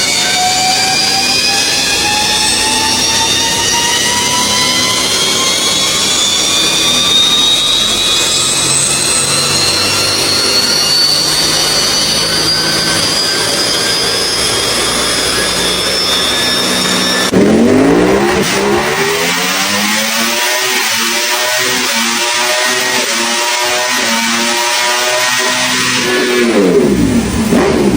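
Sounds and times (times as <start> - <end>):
motorcycle engine at high revs: 0.0 - 27.9.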